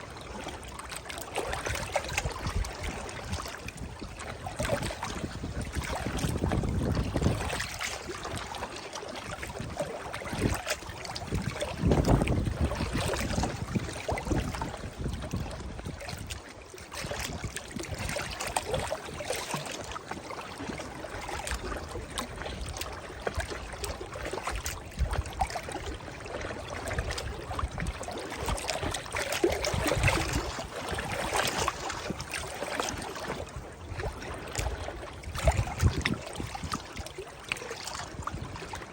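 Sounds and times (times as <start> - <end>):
river water lapping and splashing: 0.0 - 38.9.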